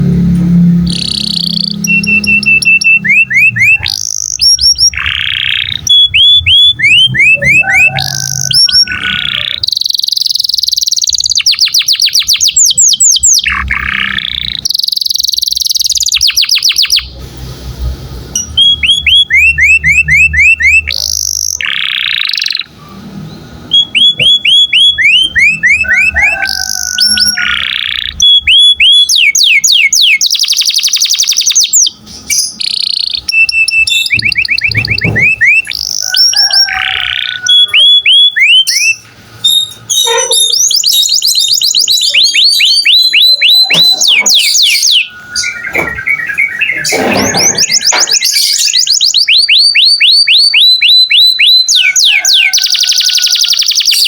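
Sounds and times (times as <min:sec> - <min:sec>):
canary singing trills: 0:00.0 - 0:17.3, 0:18.3 - 0:54.0.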